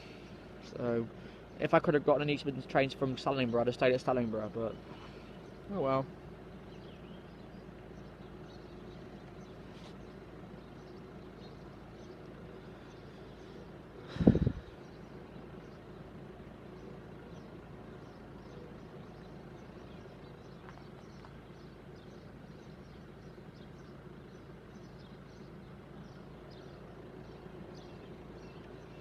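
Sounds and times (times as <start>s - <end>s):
low background hum: 0.0s - 29.0s
small birds chirping: 0.0s - 29.0s.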